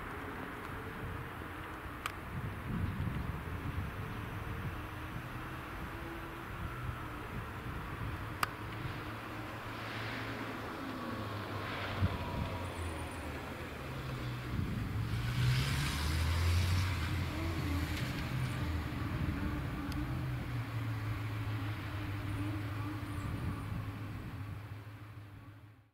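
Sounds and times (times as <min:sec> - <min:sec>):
vehicle running with low hum: 0:00.0 - 0:25.9.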